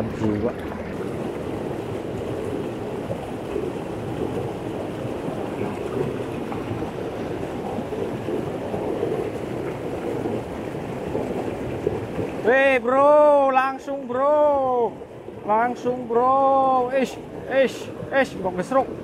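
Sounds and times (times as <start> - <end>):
river rushing over rocks: 0.0 - 19.0.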